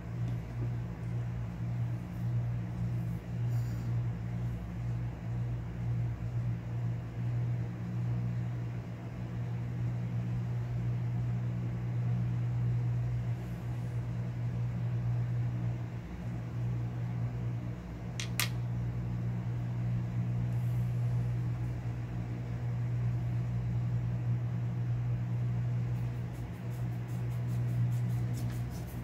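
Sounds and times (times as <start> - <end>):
low motor hum: 0.0 - 29.0.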